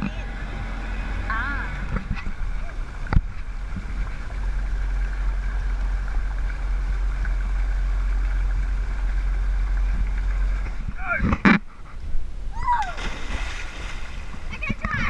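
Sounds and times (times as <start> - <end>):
motorboat engine running: 0.0 - 12.5, 14.0 - 15.0
faint steady whine: 0.0 - 15.0.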